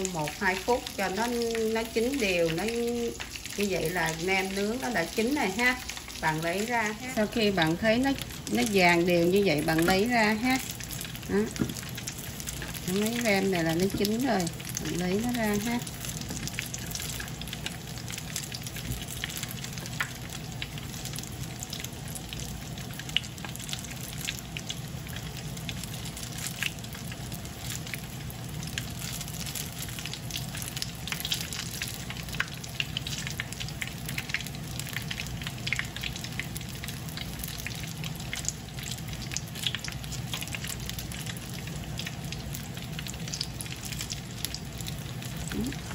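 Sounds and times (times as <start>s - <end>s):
food sizzling in hot oil: 0.0s - 45.9s.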